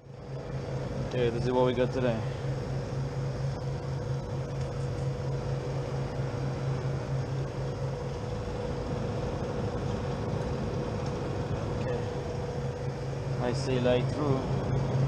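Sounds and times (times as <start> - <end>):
refrigeration unit humming: 0.0 - 15.0
steady mid-pitched tone: 0.0 - 15.0.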